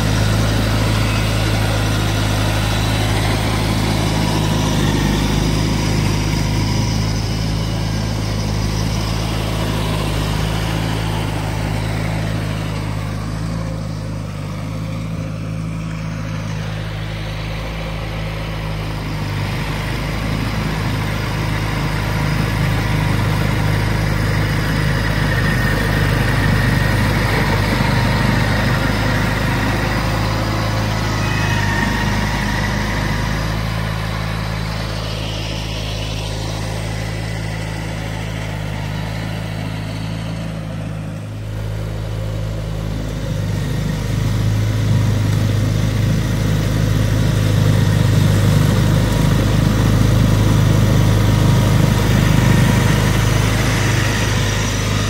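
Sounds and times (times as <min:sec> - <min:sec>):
garden tractor engine running: 0:00.0 - 0:55.0.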